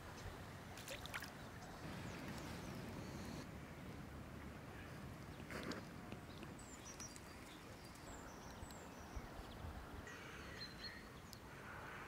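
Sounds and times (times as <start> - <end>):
low outdoor background: 0.0 - 12.0.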